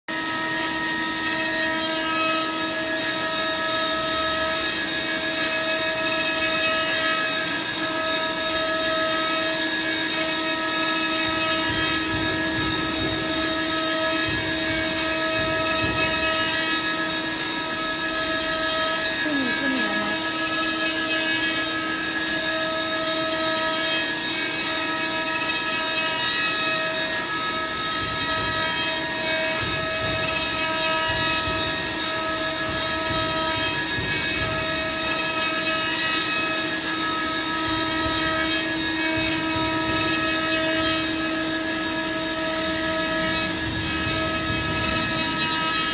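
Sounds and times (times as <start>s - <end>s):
woodworking machine whining: 0.1s - 45.9s.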